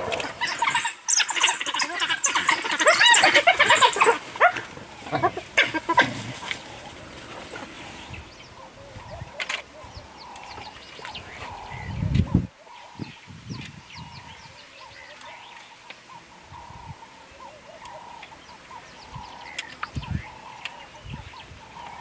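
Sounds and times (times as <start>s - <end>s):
wild dogs and hyenas calling: 0.0s - 13.2s, 14.0s - 22.0s.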